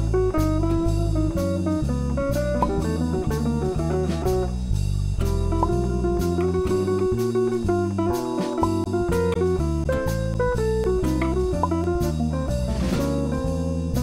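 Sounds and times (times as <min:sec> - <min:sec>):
bass line: 0:00.0 - 0:14.0
guitar-led tune: 0:00.0 - 0:14.0
steady drum beat: 0:00.0 - 0:14.0.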